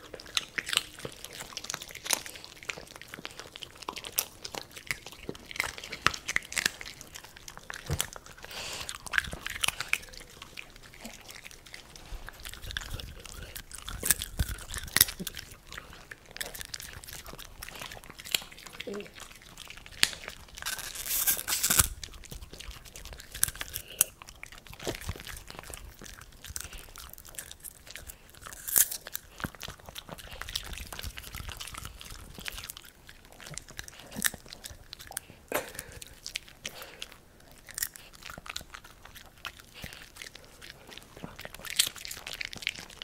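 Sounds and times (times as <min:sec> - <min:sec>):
dogs crunching popcorn: 0:00.0 - 0:43.0.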